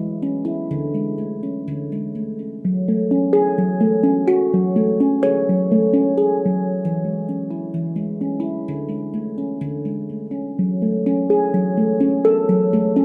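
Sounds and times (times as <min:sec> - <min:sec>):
handpan notes ringing: 0:00.0 - 0:13.0.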